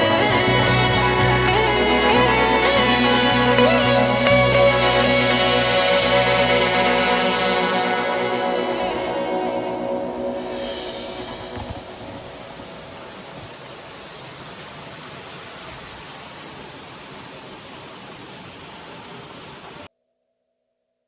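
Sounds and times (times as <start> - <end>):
running water rushing: 0.0 - 19.9.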